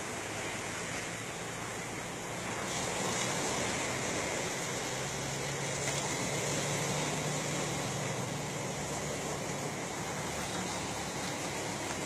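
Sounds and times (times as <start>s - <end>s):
sea noise: 0.0s - 12.0s
wind: 0.0s - 12.0s.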